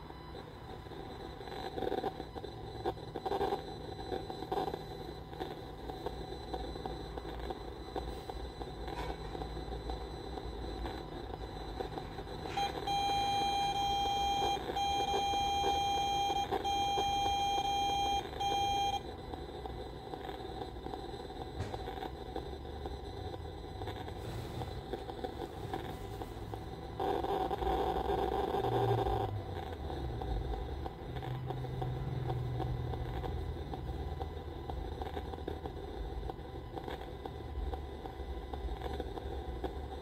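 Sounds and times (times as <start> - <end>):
electronic beeping alarm: 0.0 - 35.4.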